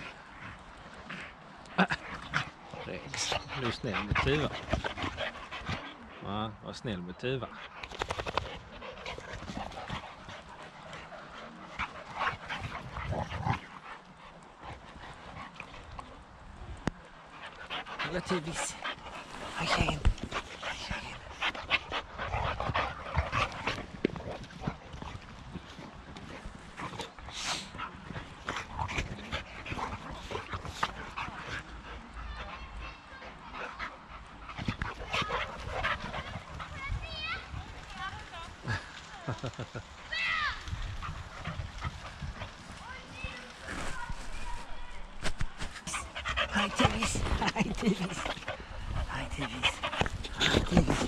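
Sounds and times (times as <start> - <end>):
dogs breathing and scuffling: 0.0 - 51.0.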